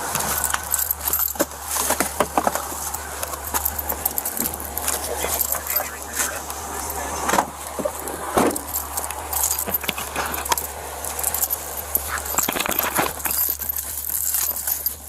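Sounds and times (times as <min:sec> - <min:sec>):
gear and clothing rustling on camera: 0:00.0 - 0:15.0
steady low hum: 0:00.0 - 0:15.0.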